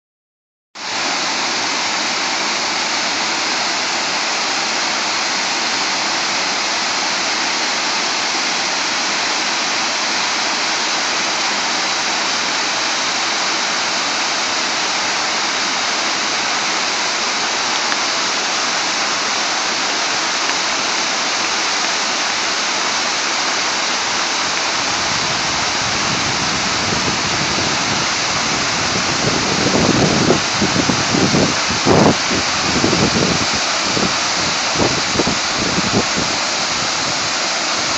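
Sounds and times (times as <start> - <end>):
waterfall rushing: 0.8 - 37.9.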